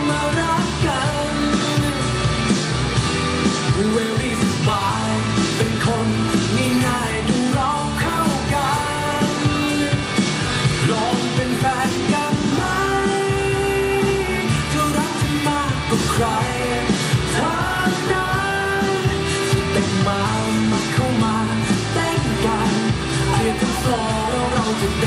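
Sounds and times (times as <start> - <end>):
dance song over loudspeakers: 0.0 - 25.0.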